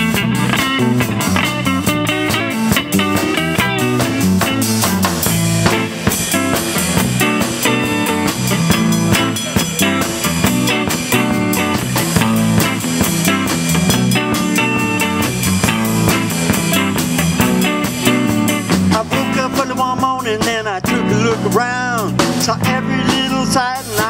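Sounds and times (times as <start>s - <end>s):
bass: 0.0s - 24.0s
drum kit beat: 0.0s - 24.0s
lead guitar with bent notes: 0.0s - 24.0s.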